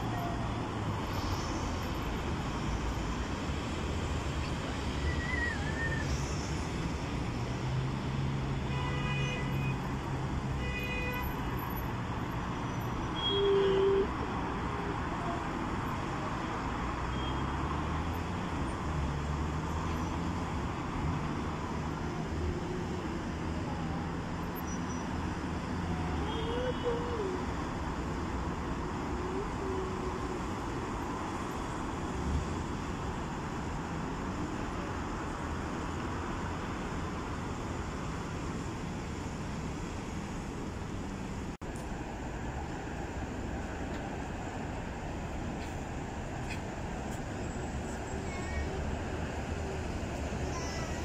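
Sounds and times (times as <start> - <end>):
road traffic: 0.0 - 51.0.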